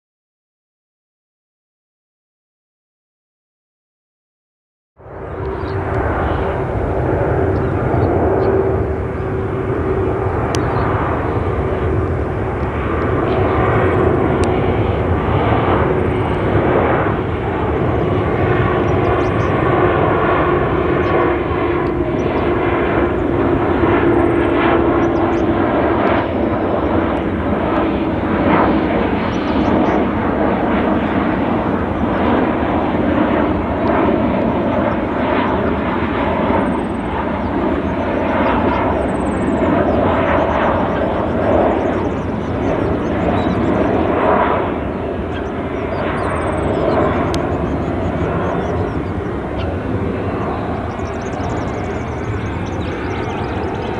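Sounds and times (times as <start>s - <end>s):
jet engines running: 5.0s - 53.9s.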